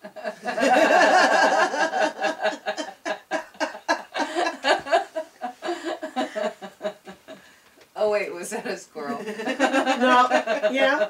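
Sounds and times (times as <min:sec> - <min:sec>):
women laughing: 0:00.0 - 0:07.4, 0:09.0 - 0:11.0.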